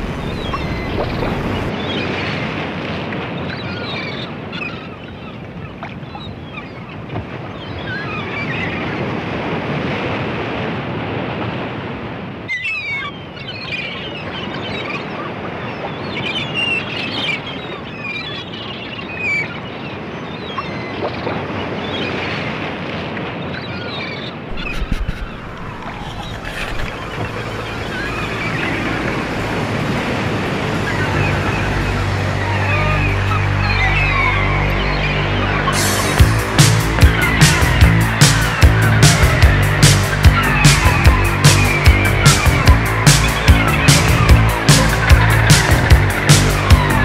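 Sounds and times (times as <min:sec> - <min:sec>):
wind rumble on microphone: 0:00.0 - 0:12.5, 0:19.6 - 0:47.0
sea water: 0:00.0 - 0:47.0
wind: 0:00.0 - 0:47.0.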